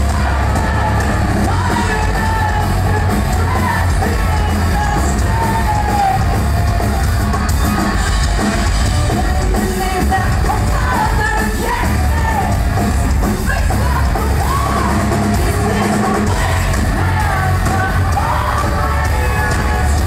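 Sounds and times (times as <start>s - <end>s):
person singing lead vocal: 0.0s - 6.4s, 7.9s - 20.0s
rock band playing live: 0.0s - 20.0s.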